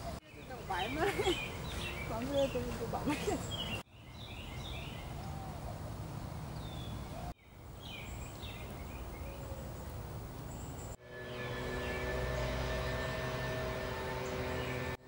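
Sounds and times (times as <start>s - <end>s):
small birds chirping: 0.0s - 5.8s, 6.5s - 15.0s.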